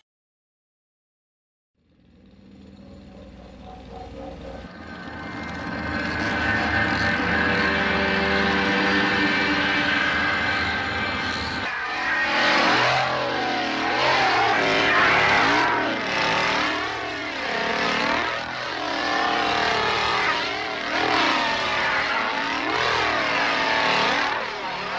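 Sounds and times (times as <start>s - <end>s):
chainsaw engine revving: 1.8s - 24.9s.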